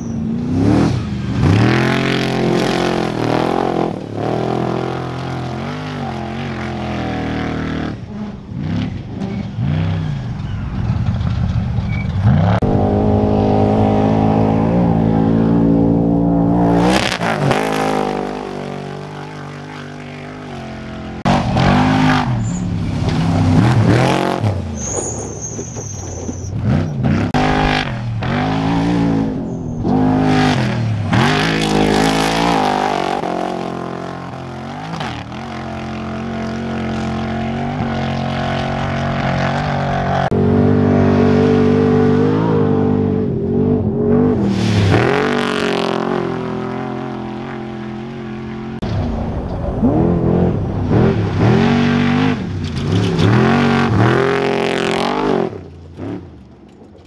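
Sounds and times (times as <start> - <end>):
racing truck engines revving: 0.0 - 57.0.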